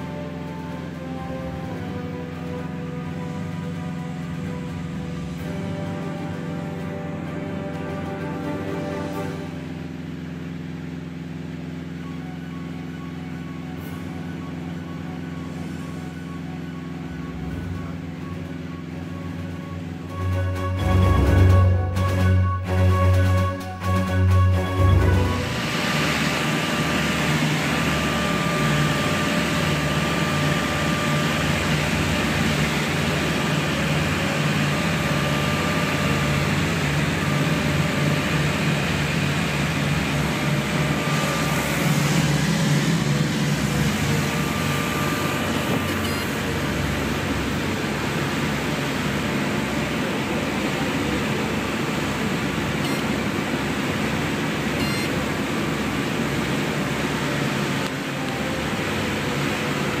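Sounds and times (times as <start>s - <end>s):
airplane engine and propeller drone: 0.0s - 60.0s
faint steady whine: 0.0s - 60.0s.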